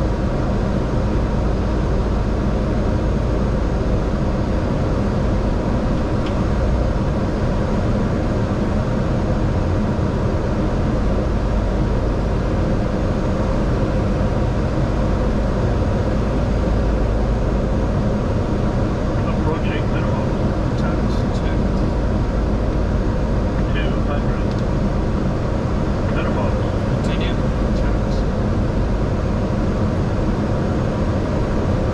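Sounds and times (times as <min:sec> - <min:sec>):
aircraft engine hum: 0:00.0 - 0:31.9.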